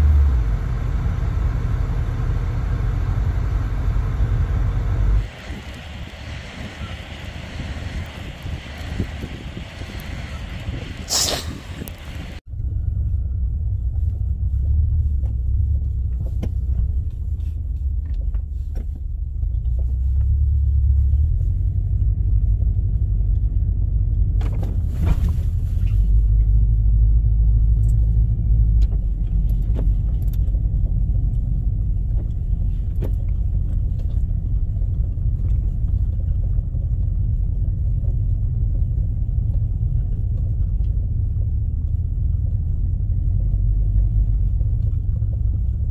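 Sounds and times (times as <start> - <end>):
vehicle engine and road rumble: 0.0 - 45.9.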